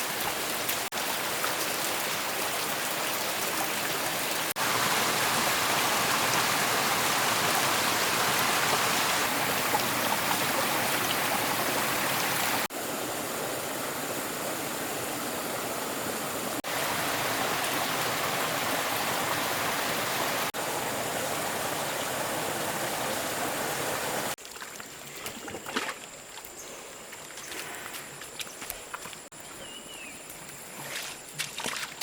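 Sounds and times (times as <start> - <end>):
running water rushing: 0.0 - 26.3.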